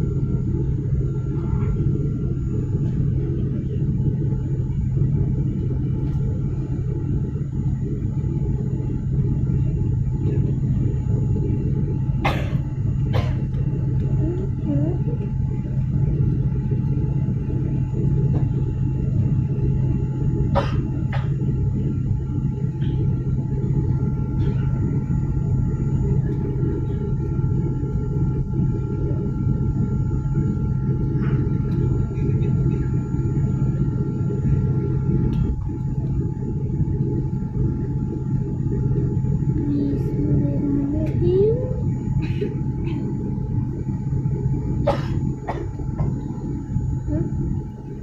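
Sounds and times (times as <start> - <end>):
faint steady hum: 0.0 - 48.0
jet cabin engine rumble: 0.0 - 48.0.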